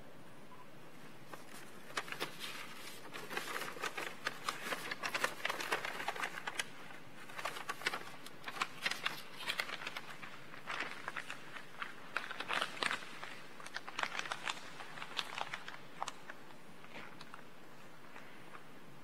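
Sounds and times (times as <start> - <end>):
paper crinkling and rustling: 1.0 - 18.7.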